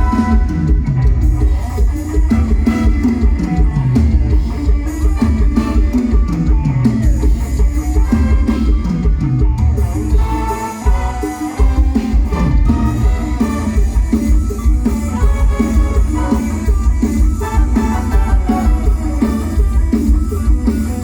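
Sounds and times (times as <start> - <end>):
drum kit beat: 0.0 - 21.0
heavy sliding bass line: 0.0 - 21.0.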